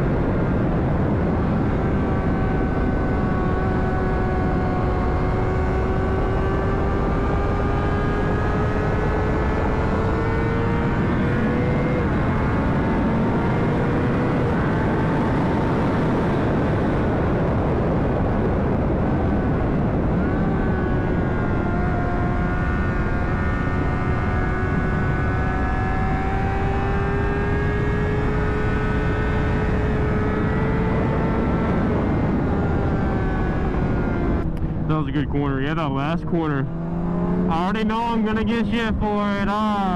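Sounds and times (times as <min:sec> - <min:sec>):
heavy wind rush: 0:00.0 - 0:39.9
motorcycle engine at speed: 0:00.0 - 0:39.9.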